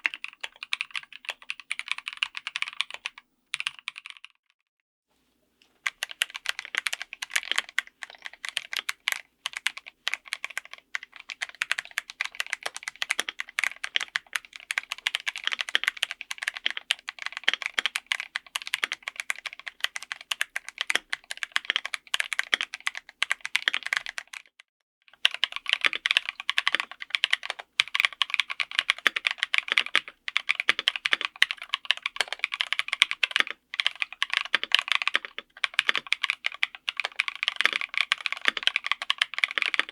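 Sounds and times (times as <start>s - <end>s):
typing on mechanical keyboard: 0.0s - 4.4s, 5.8s - 24.5s, 25.1s - 39.9s.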